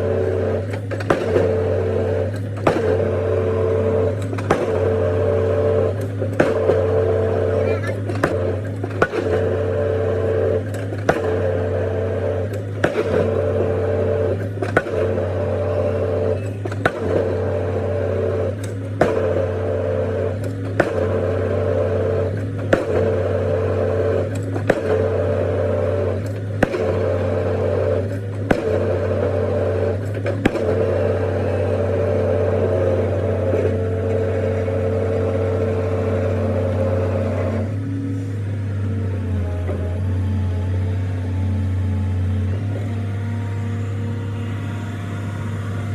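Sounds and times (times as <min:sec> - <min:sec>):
pile-driving hammer striking concrete: 0:00.0 - 0:37.8
excavator engine humming: 0:00.0 - 0:45.9.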